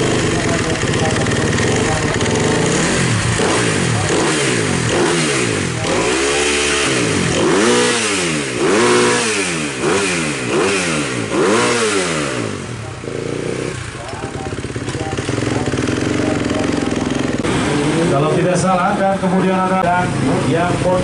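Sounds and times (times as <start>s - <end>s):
motocross engines revving: 0.0s - 21.0s.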